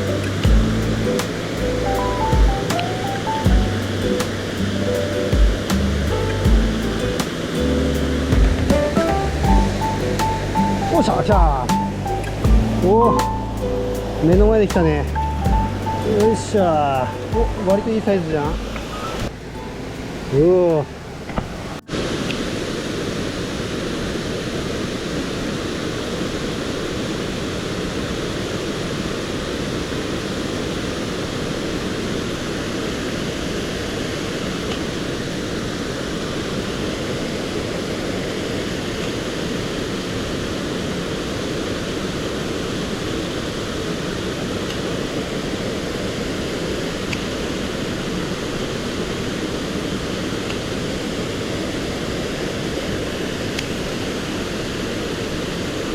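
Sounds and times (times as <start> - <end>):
stream rushing: 0.0 - 55.9.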